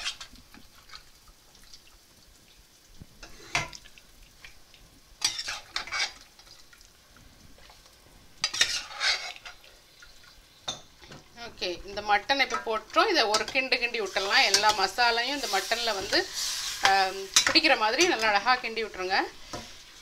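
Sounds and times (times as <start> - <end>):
faint sizzle: 0.0 - 20.0.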